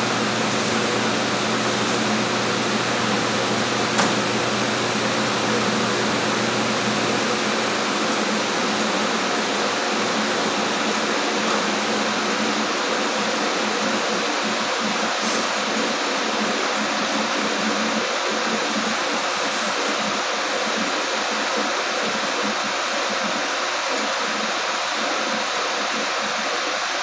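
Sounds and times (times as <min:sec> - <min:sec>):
exhaust hood fan drone: 0:00.0 - 0:26.2.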